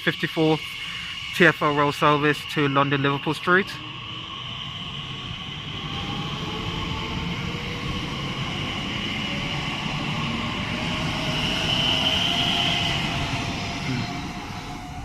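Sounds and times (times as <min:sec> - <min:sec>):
electric train motors whining: 0:00.0 - 0:15.0.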